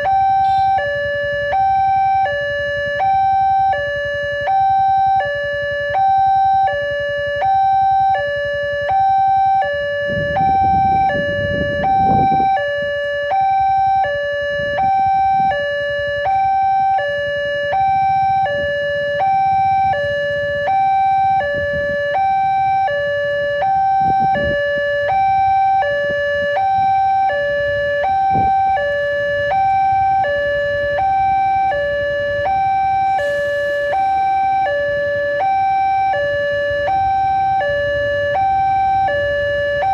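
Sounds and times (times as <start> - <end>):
two-tone crossing alarm: 0.0 - 39.9.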